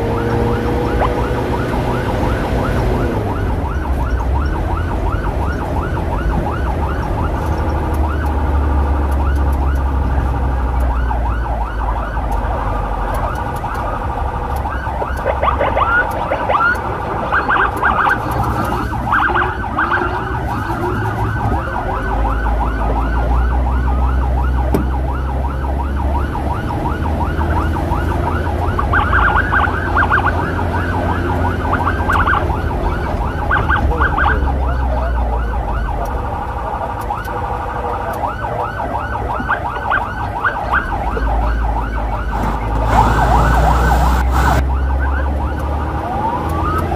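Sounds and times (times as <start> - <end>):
emergency sirens yelping: 0.0 - 46.9
wind: 0.0 - 46.9.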